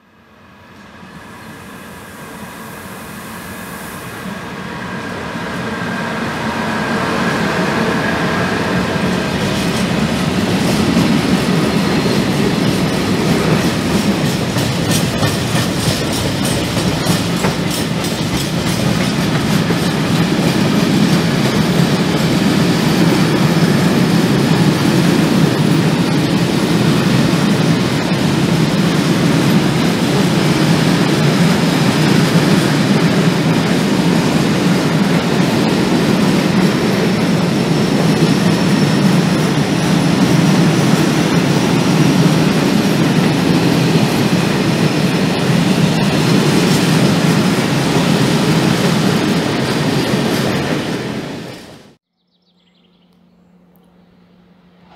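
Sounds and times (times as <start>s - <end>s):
freight train wheels rumbling on rails: 0.0s - 52.0s
sharp clicks of train wheels: 7.3s - 51.8s.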